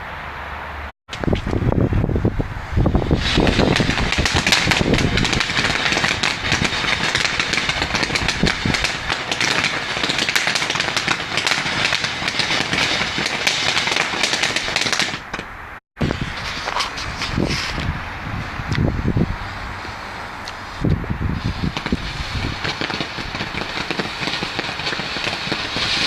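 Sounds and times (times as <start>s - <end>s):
fireworks crackling: 1.1s - 26.0s.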